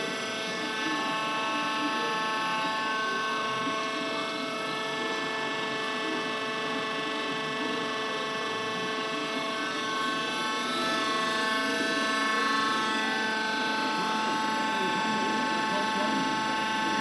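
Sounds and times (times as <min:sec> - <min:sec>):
centrifuge mechanical whine: 0:00.0 - 0:17.0.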